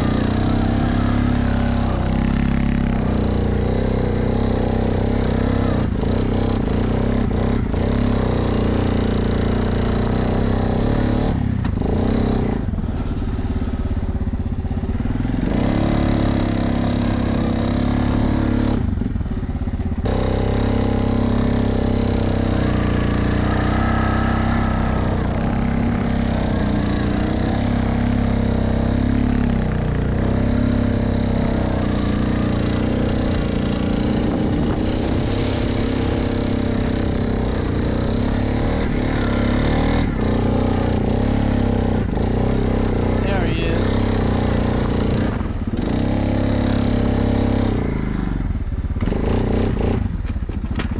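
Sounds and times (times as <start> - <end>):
atv engine under throttle: 0.0 - 50.9.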